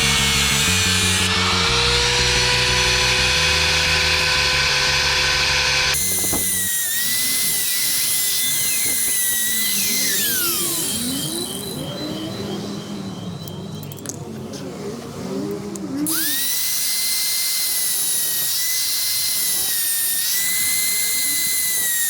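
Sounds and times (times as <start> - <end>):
small power tool whining: 0.0 - 14.1, 15.4 - 22.0.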